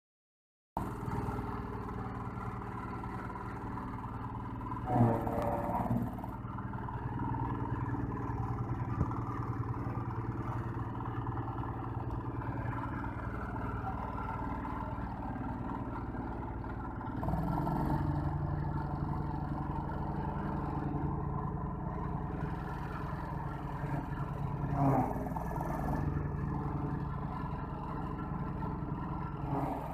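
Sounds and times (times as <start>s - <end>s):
straw chopper engine running: 0.8s - 29.9s.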